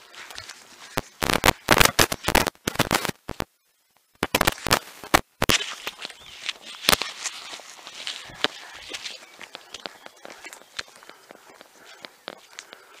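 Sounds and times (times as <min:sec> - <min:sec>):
crackling and knocking on camera microphone: 0:00.3 - 0:07.2, 0:09.2 - 0:12.9.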